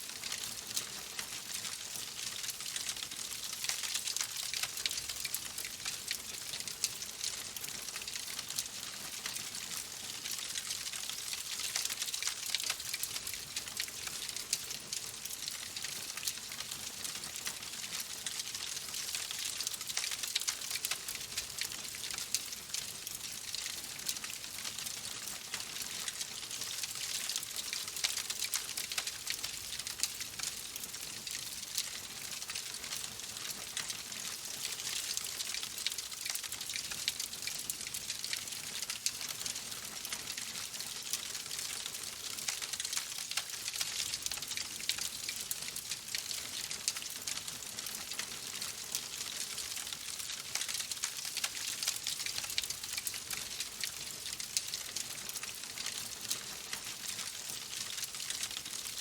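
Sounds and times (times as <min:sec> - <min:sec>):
wood fire crackling: 0:00.1 - 0:16.6, 0:17.2 - 0:24.4, 0:25.0 - 0:57.2.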